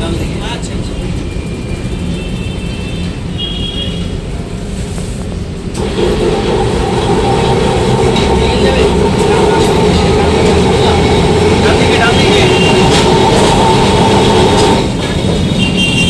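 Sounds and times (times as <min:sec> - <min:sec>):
electric tram rumbling: 0:00.0 - 0:16.0.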